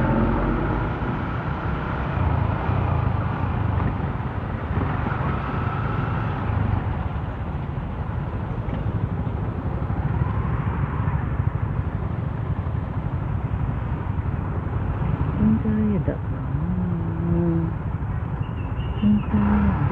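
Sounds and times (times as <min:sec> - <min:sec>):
road noise: 0:00.0 - 0:19.9.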